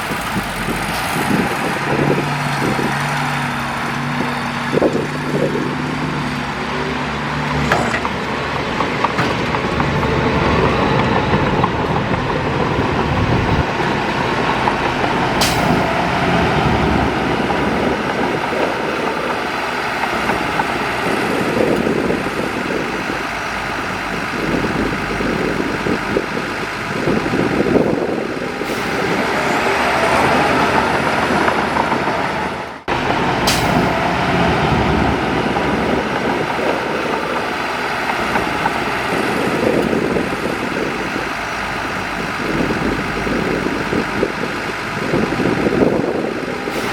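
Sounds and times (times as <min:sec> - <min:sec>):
bulldozer diesel engine running: 0:00.0 - 0:46.9
dump trucks: 0:00.0 - 0:46.9.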